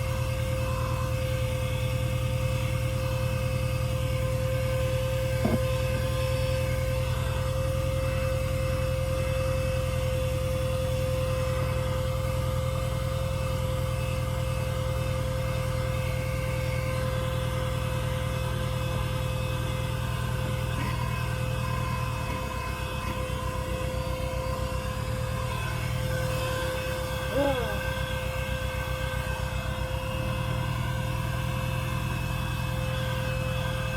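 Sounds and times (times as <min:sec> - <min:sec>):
motor running: 0:00.0 - 0:33.9.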